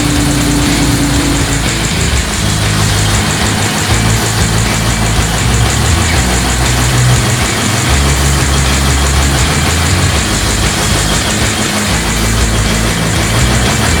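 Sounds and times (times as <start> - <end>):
diesel generator running: 0.0 - 14.0.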